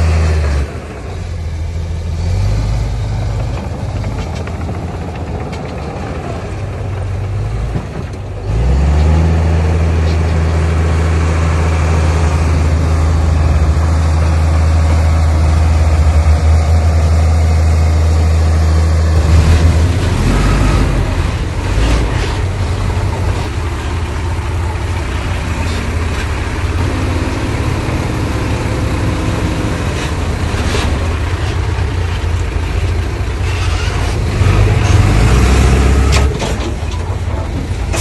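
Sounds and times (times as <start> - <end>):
diesel machinery engine running: 0.0 - 38.0.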